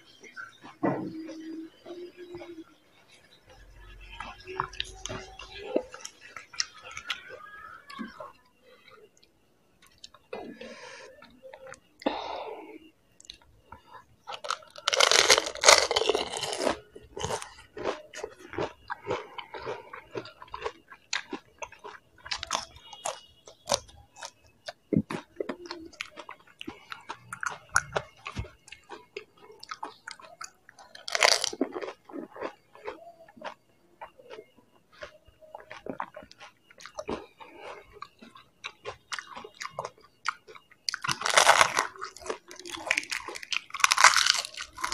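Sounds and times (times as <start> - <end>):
crunching and chewing: 0.0 - 44.9.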